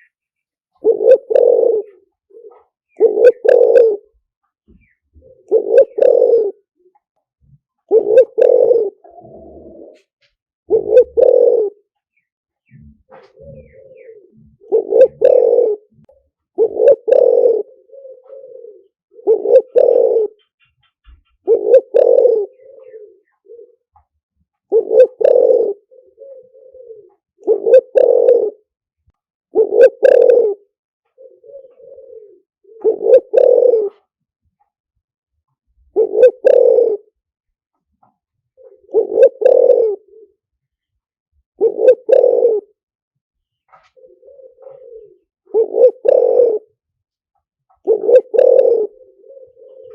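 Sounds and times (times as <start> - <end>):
dove cooing: 0.0 - 28.8, 29.5 - 34.2, 35.6 - 37.2, 38.0 - 40.6, 41.5 - 42.8, 43.5 - 49.9.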